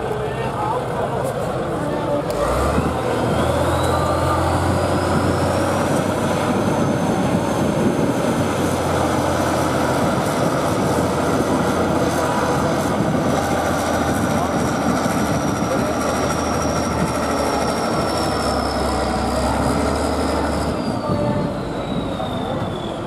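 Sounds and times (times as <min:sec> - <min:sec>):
heavy truck engine under load: 0:00.0 - 0:23.0
thin engine whine: 0:01.7 - 0:23.0.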